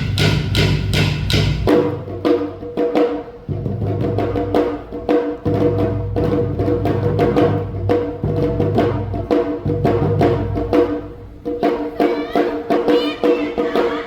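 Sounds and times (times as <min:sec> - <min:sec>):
drums and metal percussion: 0:00.0 - 0:14.0.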